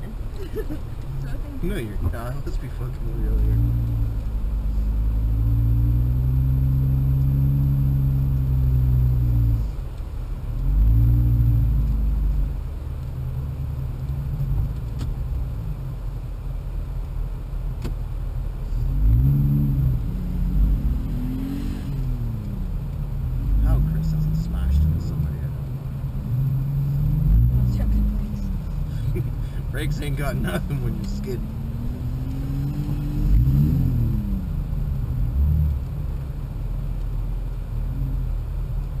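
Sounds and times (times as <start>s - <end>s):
off-road car engine revving: 0.0s - 16.1s, 17.7s - 39.0s.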